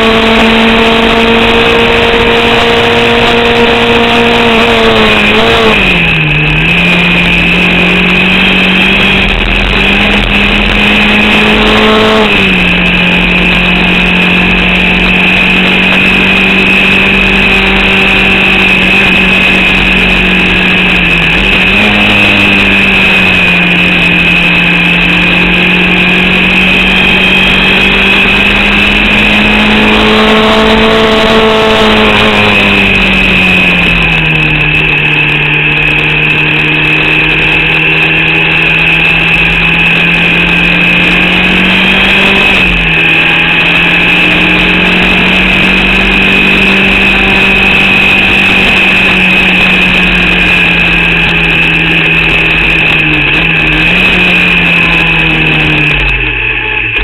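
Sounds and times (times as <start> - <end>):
racing engine under load: 0.0 - 57.0
steady high whine: 0.0 - 57.0.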